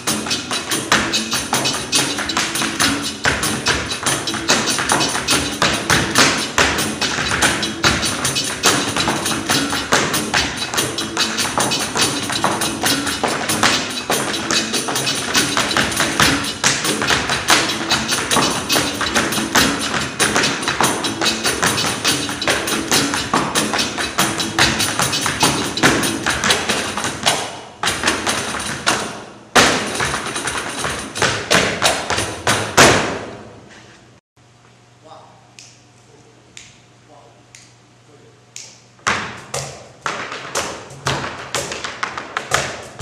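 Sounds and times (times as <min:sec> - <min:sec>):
music: 0:00.0 - 0:33.4, 0:39.3 - 0:43.0
shoes striking stage floor: 0:00.0 - 0:33.9, 0:39.0 - 0:43.0.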